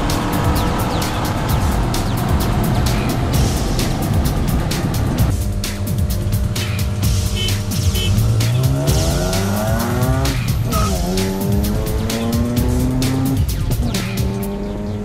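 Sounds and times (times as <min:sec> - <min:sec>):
car engine accelerating: 0:00.0 - 0:15.0
music with steady beat: 0:00.0 - 0:15.0.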